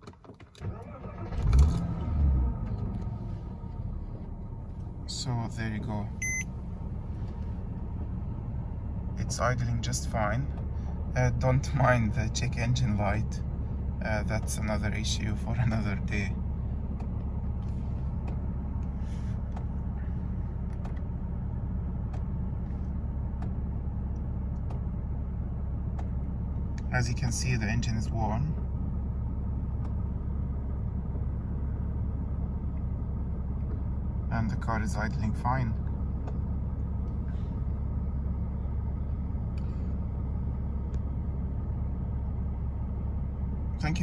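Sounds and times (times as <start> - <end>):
car engine idling: 0.6 - 44.0.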